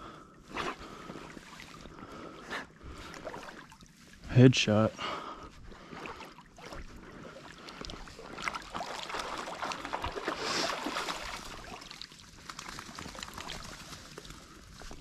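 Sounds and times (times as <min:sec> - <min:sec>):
creek water splashing: 0:00.4 - 0:15.0.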